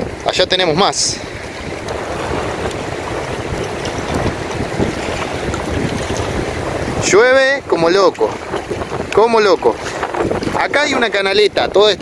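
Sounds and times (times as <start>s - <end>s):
heavy rain hiss: 0.0s - 11.3s
small waves lapping: 0.0s - 12.0s
wind buffeting microphone: 0.0s - 12.0s.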